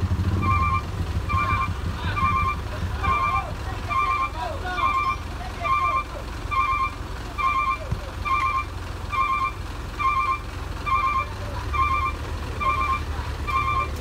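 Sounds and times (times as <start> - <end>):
diesel engine idling: 0.0 - 14.0
vehicle reversing alarm beeping: 0.3 - 14.0.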